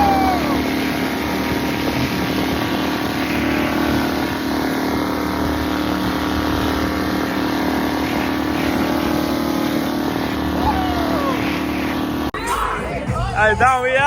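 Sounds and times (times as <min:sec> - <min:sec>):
water rushing: 0:00.0 - 0:12.4
motorboat engine running: 0:00.0 - 0:14.0.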